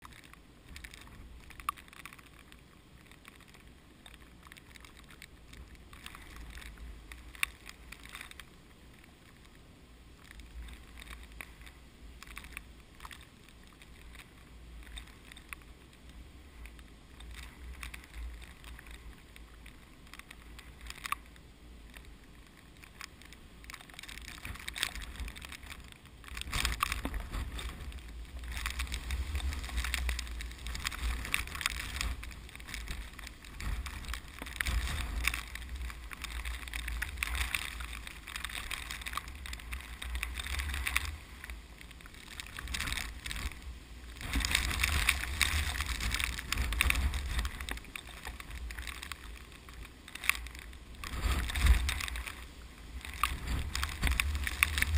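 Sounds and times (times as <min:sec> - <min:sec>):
crackling rustle: 0:00.0 - 0:54.9.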